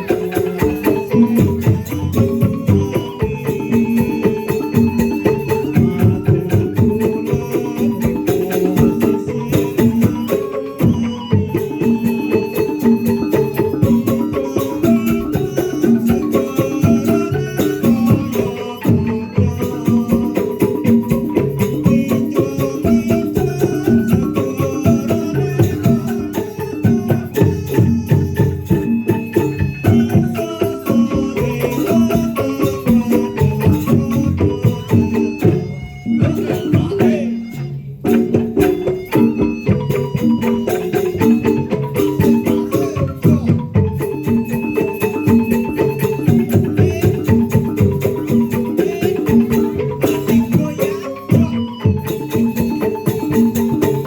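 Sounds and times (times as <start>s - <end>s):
folk percussion ensemble: 0.0s - 54.0s
tuned percussion melody: 0.0s - 54.0s.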